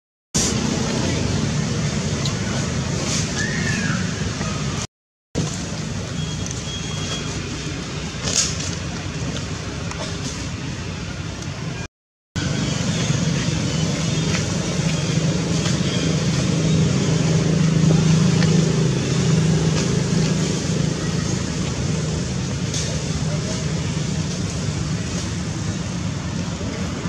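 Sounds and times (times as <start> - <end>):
engine running: 0.4 - 11.8, 12.4 - 27.0
outdoor background noise: 0.4 - 27.0.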